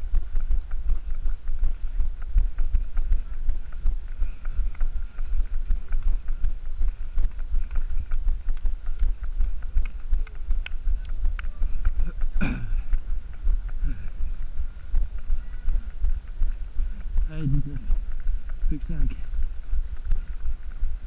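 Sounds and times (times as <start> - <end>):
running footsteps on asphalt: 0.0 - 21.0.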